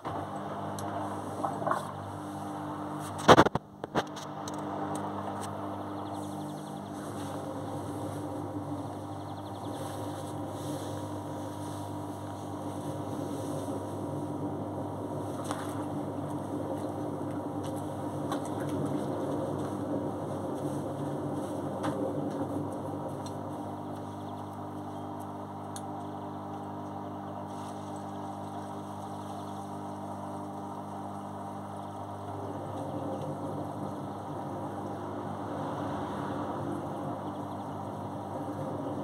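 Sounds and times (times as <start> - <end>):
washing machine drum motor humming: 0.0 - 39.0.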